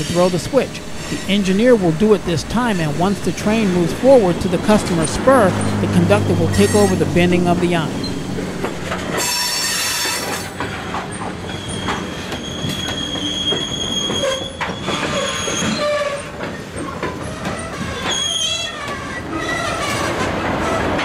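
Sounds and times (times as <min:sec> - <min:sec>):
train cars rolling rumble: 0:00.0 - 0:21.0
wheel flanges squealing on rail: 0:00.0 - 0:21.0.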